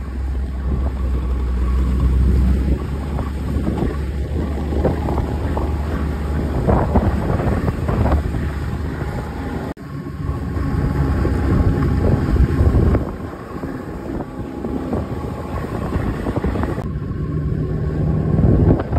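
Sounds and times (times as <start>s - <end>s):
snowmobile engine running: 0.0s - 18.9s
wind buffeting microphone: 0.0s - 18.9s.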